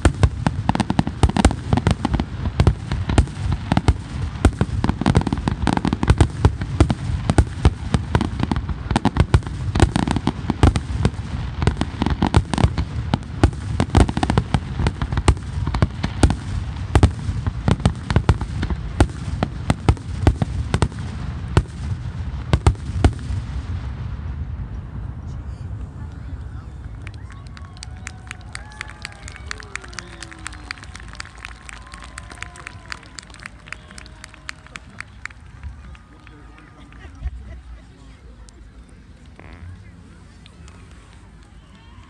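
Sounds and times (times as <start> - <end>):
fireworks bangs: 0.0 - 37.4.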